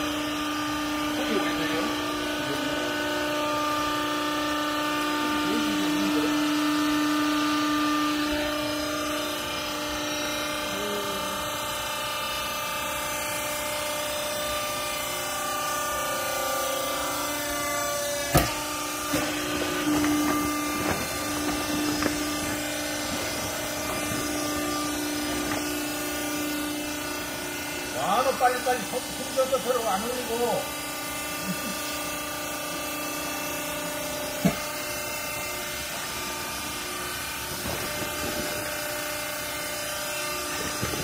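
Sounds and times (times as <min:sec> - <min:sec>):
hydraulic pump motor humming: 0:00.0 - 0:41.0.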